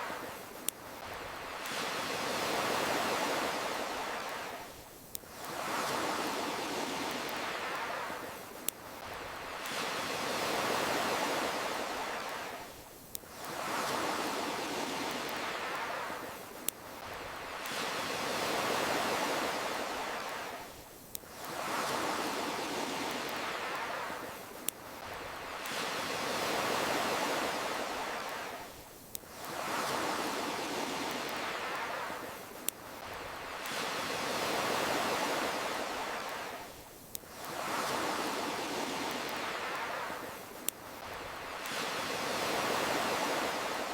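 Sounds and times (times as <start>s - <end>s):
ocean waves washing in: 0.0s - 43.9s.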